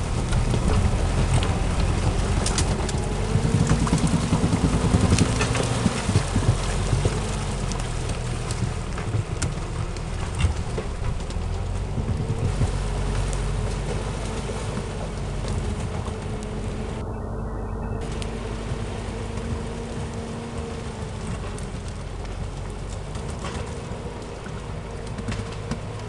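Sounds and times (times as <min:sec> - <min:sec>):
tractor diesel engine pulling: 0:00.0 - 0:26.0.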